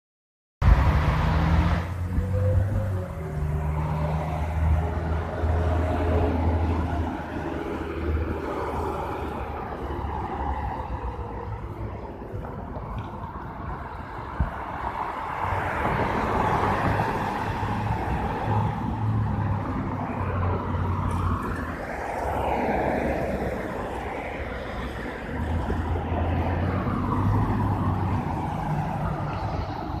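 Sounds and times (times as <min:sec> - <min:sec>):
vehicles driving past: 0:00.6 - 0:30.0.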